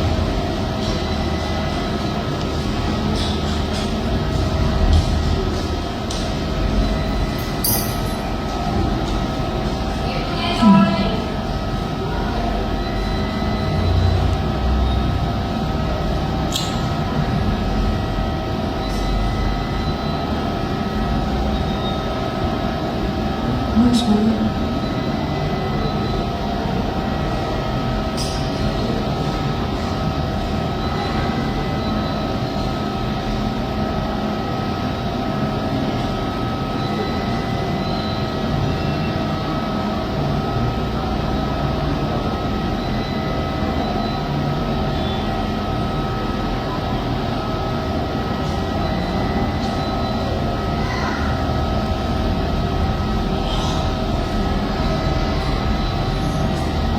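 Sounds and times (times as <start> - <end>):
steady hum of tones: 0.0 - 56.9.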